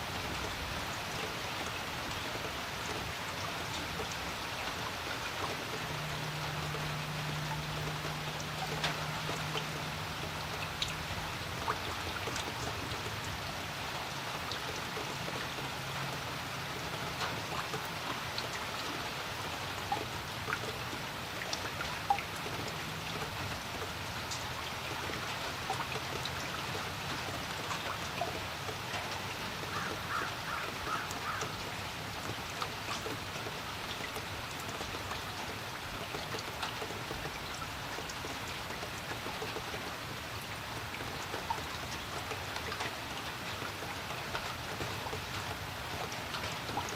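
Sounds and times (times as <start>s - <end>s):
rain falling on a creek: 0.0s - 46.9s.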